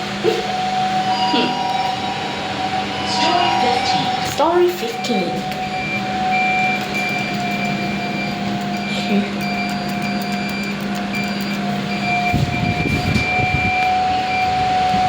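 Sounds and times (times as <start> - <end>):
constant machine whine: 0.0 - 15.0
lift machinery hum: 0.0 - 15.0
low machinery rumble: 0.0 - 15.0.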